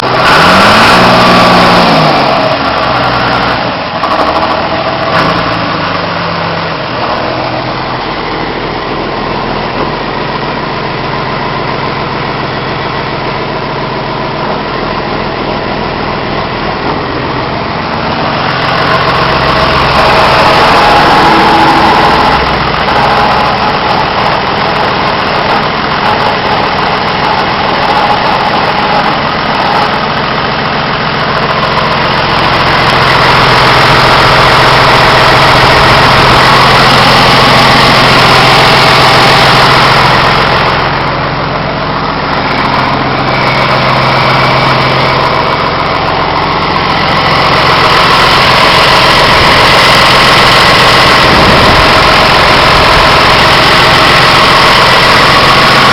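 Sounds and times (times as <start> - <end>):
tractor diesel engine idling: 0.0 - 55.9.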